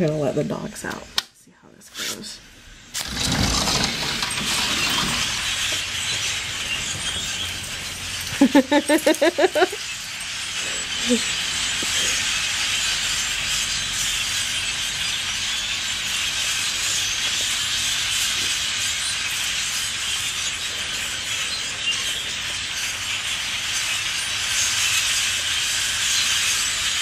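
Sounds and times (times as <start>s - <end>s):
flock of birds calling: 3.1s - 27.0s.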